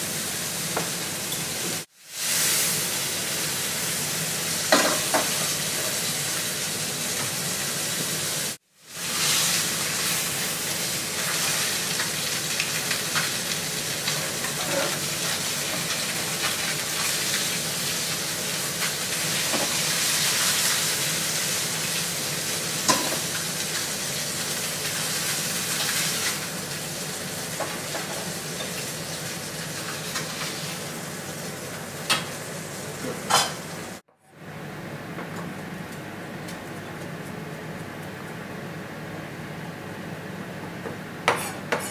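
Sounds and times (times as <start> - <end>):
food sizzling in skillet: 0.0 - 34.1.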